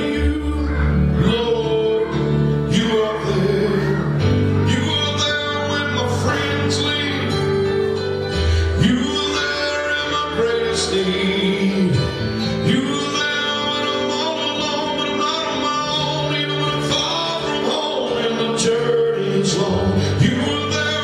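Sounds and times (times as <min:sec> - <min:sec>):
instrumental accompaniment: 0:00.0 - 0:21.0
man singing: 0:00.0 - 0:21.0.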